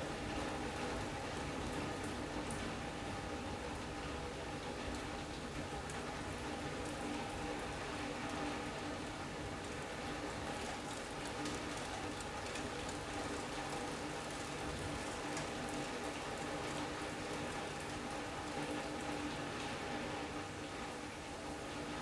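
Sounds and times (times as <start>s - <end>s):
rain on roof and glass: 0.0s - 22.0s.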